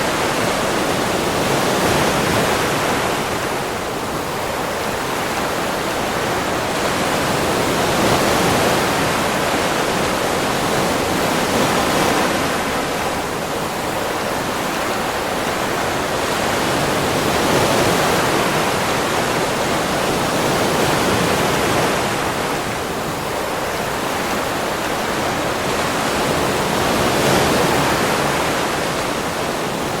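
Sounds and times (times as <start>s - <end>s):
surf on a beach: 0.0s - 30.0s.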